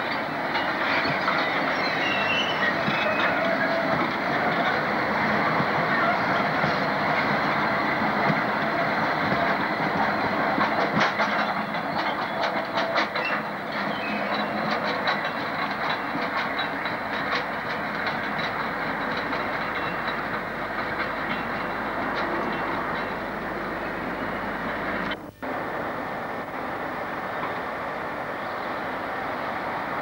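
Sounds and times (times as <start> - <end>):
freight train rumbling past: 0.0 - 30.0
wheels clicking over rail joints: 0.0 - 30.0.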